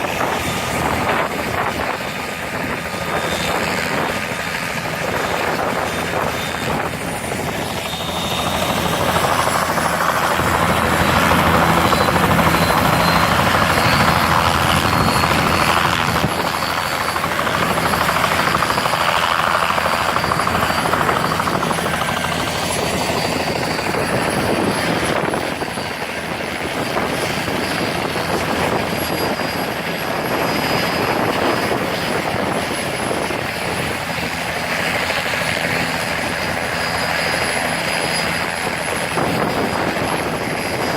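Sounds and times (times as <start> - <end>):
helicopter rotor and engine noise: 0.0 - 40.9.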